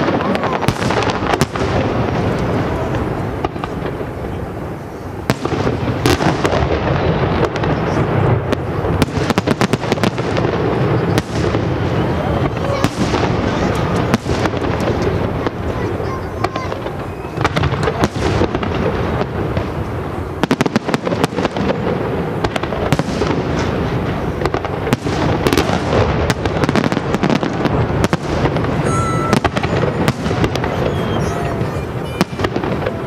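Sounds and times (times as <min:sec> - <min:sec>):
fireworks booming: 0:00.0 - 0:33.0
sharp firework bangs: 0:00.0 - 0:33.0.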